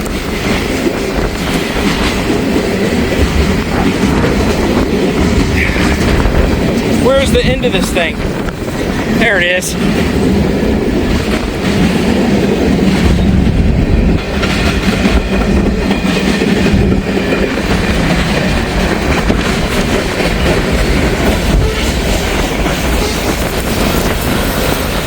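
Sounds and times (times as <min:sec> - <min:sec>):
freight train rolling past: 0:00.0 - 0:25.0
wheels clacking over rail joints: 0:00.0 - 0:25.0.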